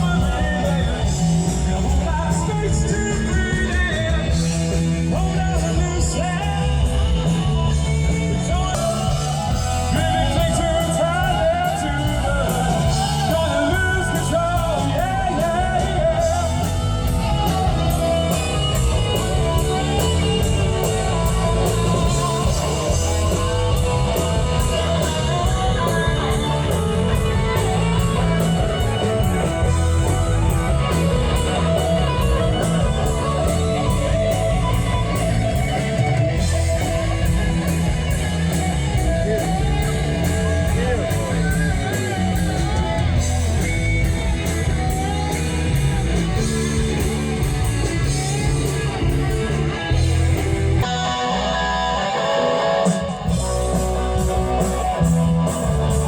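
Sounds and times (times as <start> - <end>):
person singing: 0.0 - 50.1, 50.8 - 56.0
steady drum beat: 0.0 - 50.9, 53.0 - 56.0
electric guitar: 0.0 - 56.0
live rock band: 0.0 - 56.0.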